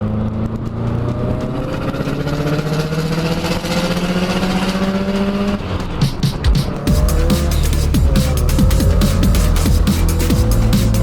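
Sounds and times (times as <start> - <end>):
vehicle engine running: 0.0 - 6.0, 6.9 - 11.0.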